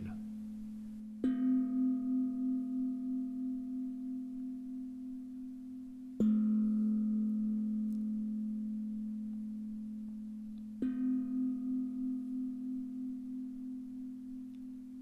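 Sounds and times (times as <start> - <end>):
higher singing bowl wavering tone: 0.0 - 15.0
low singing bowl ringing: 0.0 - 15.0.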